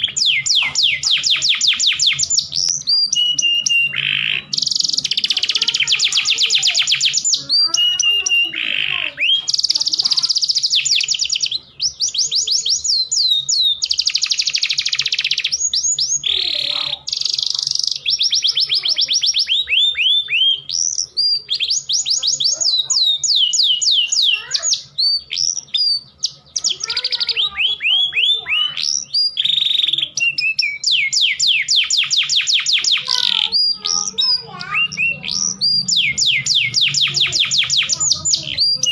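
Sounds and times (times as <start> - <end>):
canary calls: 0.0 - 38.9
canary singing trills: 0.0 - 38.9.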